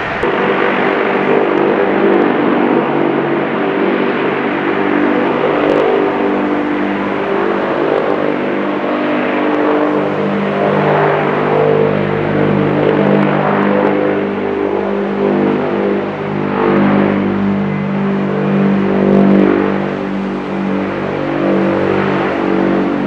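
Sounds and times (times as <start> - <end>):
loud engine drone: 0.0 - 23.0.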